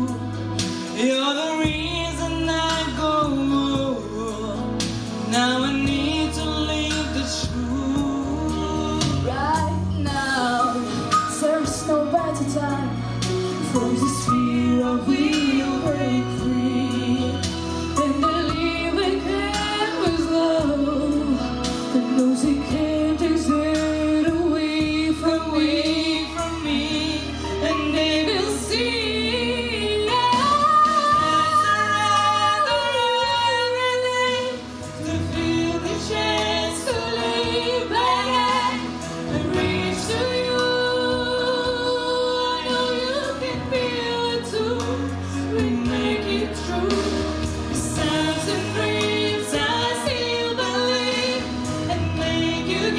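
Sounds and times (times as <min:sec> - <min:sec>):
backing track: 0:00.0 - 0:52.9
women singing a ballad duet: 0:00.0 - 0:52.9.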